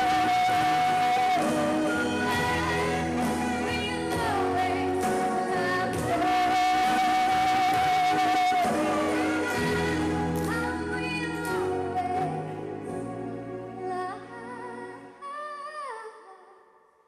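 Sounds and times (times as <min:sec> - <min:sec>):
girl singing into microphone: 0:00.0 - 0:12.6, 0:13.8 - 0:16.8
instrumental backing music: 0:00.0 - 0:15.3.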